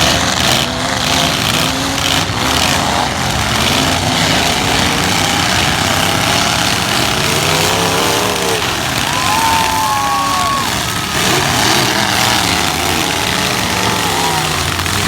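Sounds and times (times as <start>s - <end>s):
truck engines revving loudly: 0.0s - 15.0s.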